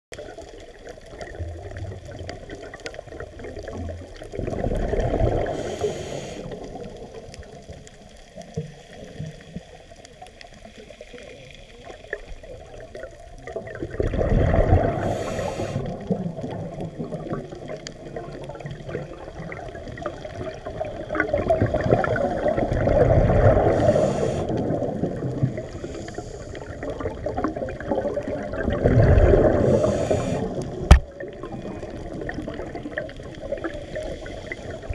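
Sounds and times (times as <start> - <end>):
underwater wash: 0.1 - 34.9
diver exhaling bubbles: 1.2 - 7.3, 12.9 - 34.9.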